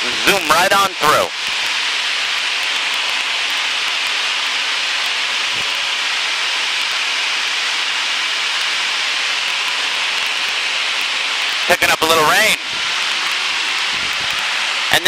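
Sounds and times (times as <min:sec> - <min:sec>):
light plane cockpit noise: 0:00.0 - 0:15.0.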